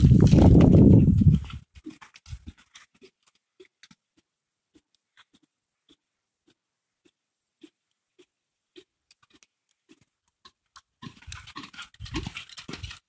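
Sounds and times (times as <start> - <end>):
hoofbeats in sand: 0.0 - 13.0.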